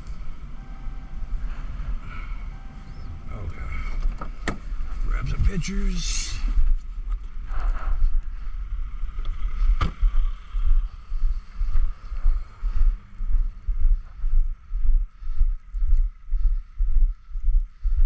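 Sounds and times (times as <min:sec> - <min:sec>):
wind rumbling on microphone: 0:01.2 - 0:18.0.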